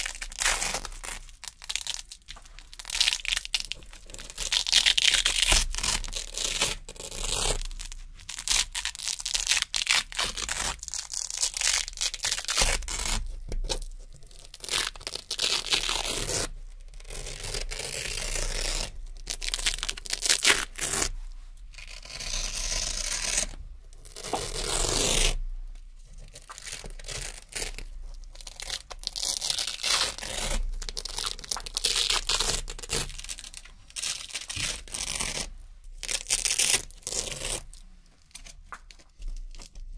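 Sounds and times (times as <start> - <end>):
velcro ripping: 0.0 - 25.4, 26.2 - 39.8.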